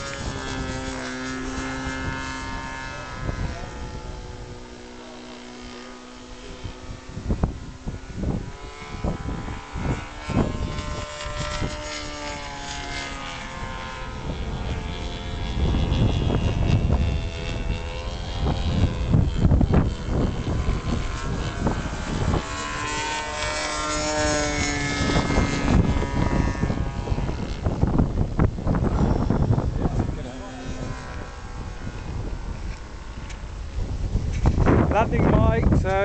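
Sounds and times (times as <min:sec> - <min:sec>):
model airplane engine overhead: 0:00.0 - 0:36.0
wind buffeting microphone: 0:00.0 - 0:36.0.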